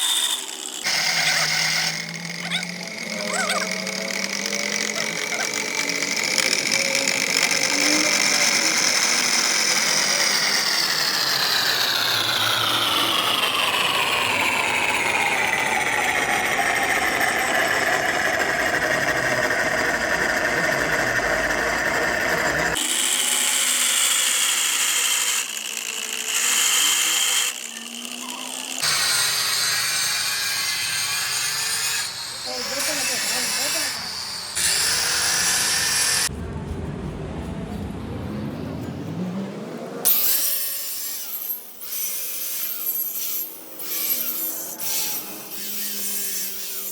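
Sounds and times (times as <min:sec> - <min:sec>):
power tool whining: 0:00.0 - 0:36.4, 0:39.9 - 0:46.9
machine noise: 0:00.0 - 0:46.9.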